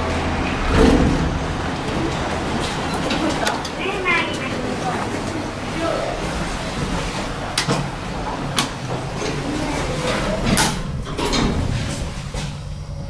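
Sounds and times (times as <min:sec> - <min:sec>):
elevator doors sliding closed: 0:00.0 - 0:13.0
low elevator hum: 0:00.0 - 0:13.0.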